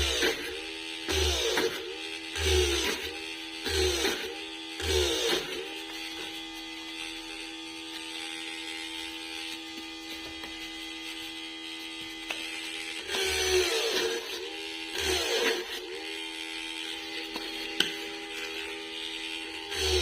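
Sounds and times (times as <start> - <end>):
small electric motor humming: 0.0 - 20.0.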